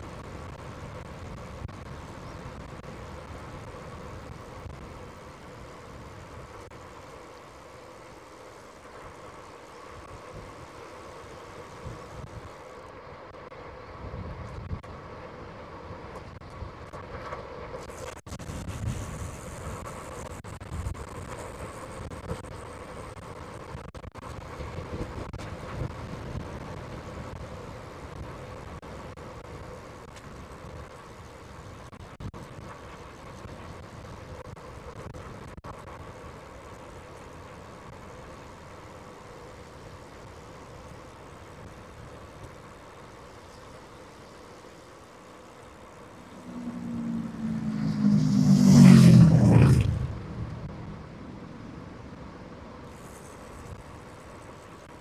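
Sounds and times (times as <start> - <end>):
wind rushing over microphone: 0.0 - 7.4, 8.8 - 44.4, 46.0 - 55.0
road noise: 0.0 - 55.0.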